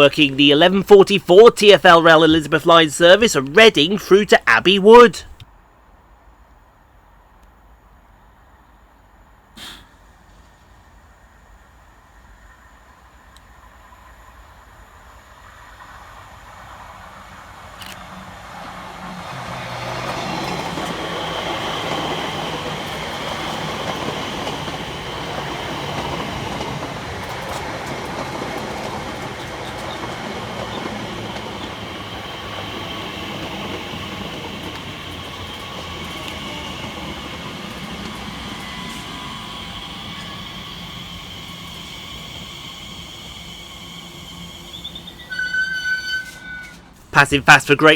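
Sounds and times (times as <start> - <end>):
electric train high whine: 6.1 - 47.9.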